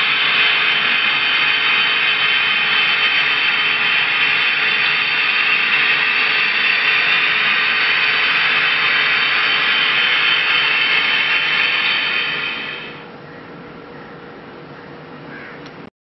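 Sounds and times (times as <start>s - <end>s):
gas turbine locomotive whine: 0.0s - 15.8s.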